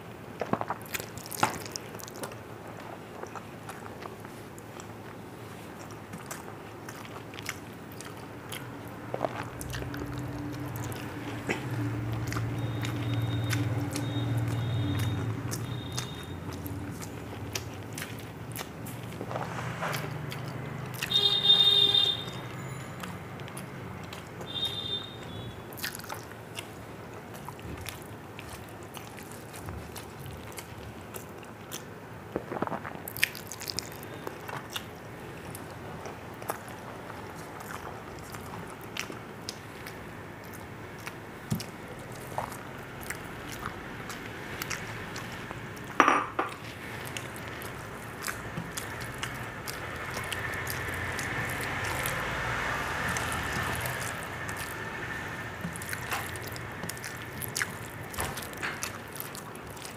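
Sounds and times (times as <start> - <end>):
chewing and mouth smacks: 0.4 - 59.9.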